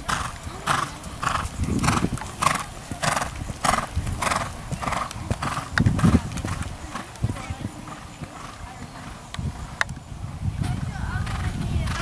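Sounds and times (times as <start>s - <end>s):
hoofbeats on sand: 0.0s - 12.0s.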